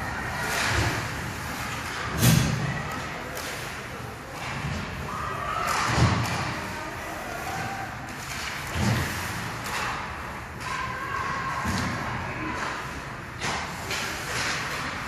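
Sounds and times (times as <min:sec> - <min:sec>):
arena background noise: 0:00.0 - 0:15.0.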